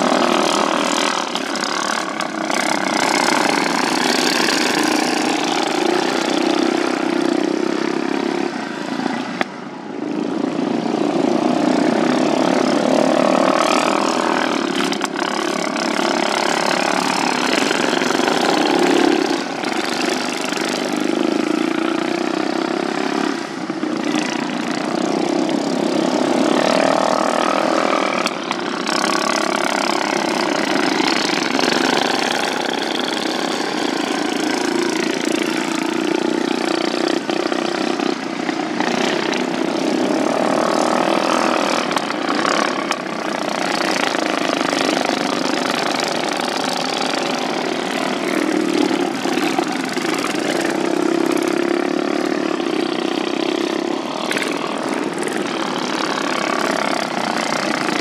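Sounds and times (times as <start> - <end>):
racing lawn mower engines passing: 0.0 - 58.0.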